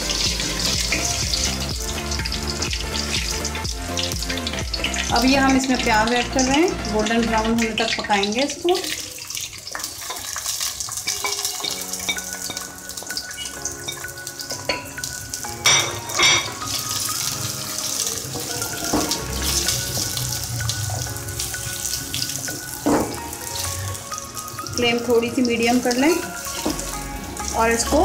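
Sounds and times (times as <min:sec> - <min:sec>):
electronic background music: 0:00.0 - 0:08.0, 0:11.2 - 0:28.0
onions sizzling in oil: 0:00.0 - 0:28.0.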